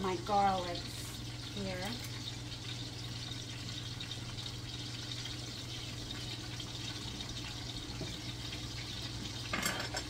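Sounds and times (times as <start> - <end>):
sausages sizzling in a pan: 0.0 - 10.0.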